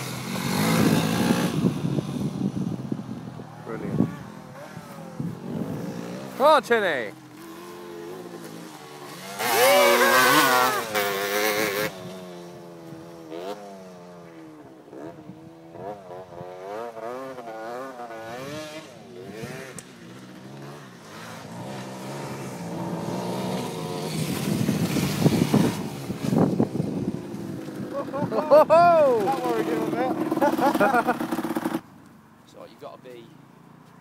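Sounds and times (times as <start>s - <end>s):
dirt bike engines revving: 0.0s - 31.9s
dirt bike passing close: 0.0s - 31.9s.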